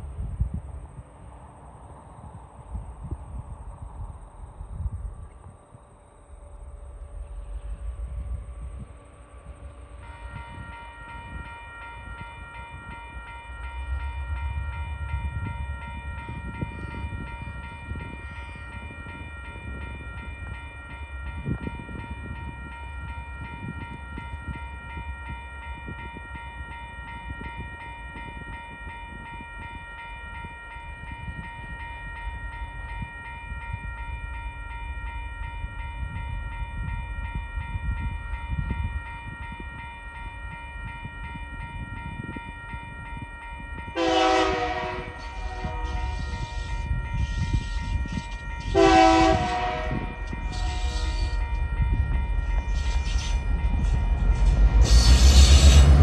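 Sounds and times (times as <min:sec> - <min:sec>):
low rumble of train: 0:00.0 - 0:56.0.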